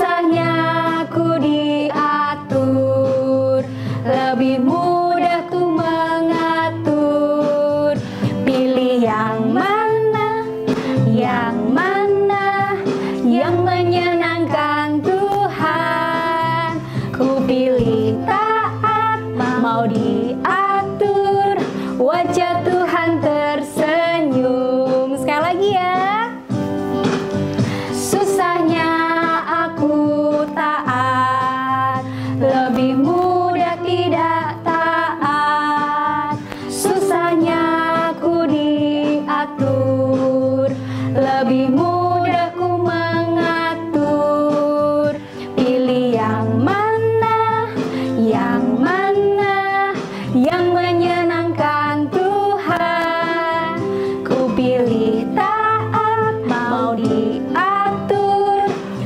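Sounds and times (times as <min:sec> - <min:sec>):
women singing: 0:00.0 - 0:26.4, 0:27.8 - 0:59.0
guitar accompaniment: 0:00.0 - 0:59.0.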